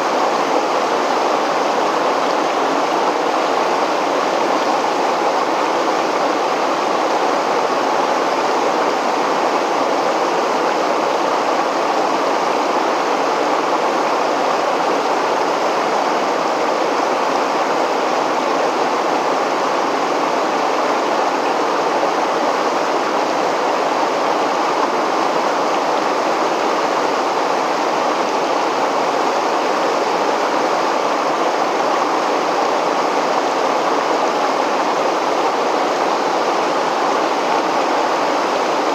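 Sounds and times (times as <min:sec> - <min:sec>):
river water pouring over weir: 0:00.0 - 0:38.9.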